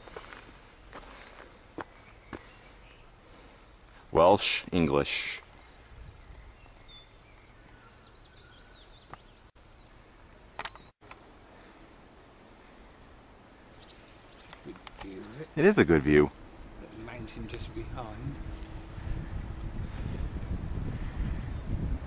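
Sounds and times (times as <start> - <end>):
faint open-air background noise: 0.0 - 22.0.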